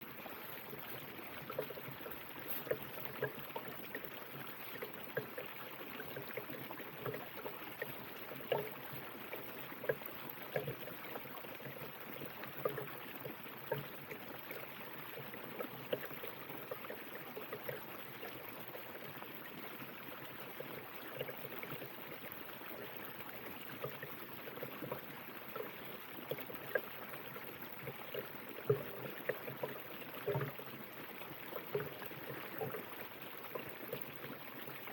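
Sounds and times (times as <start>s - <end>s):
water gurgling and splashing: 0.0s - 34.9s.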